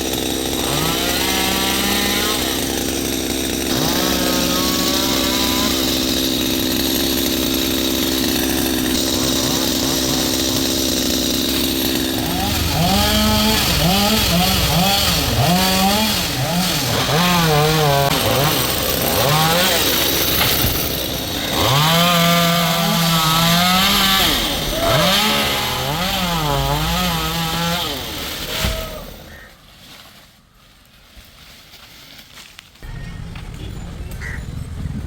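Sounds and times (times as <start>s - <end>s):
chainsaw revving cutting wood: 0.0s - 29.4s.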